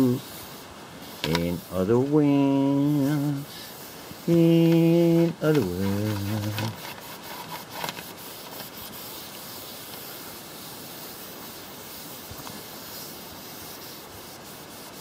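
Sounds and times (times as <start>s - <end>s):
cloth wiping a shelf: 0.0s - 15.0s
faint scrapes: 0.0s - 15.0s.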